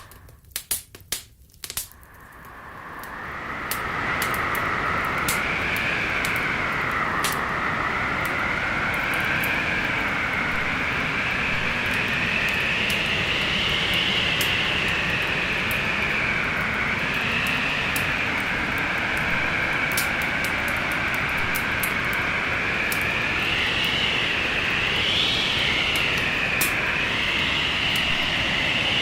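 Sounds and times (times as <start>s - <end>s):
whistling wind: 0.0s - 0.4s, 1.9s - 29.0s
wood fire crackling: 0.0s - 29.0s.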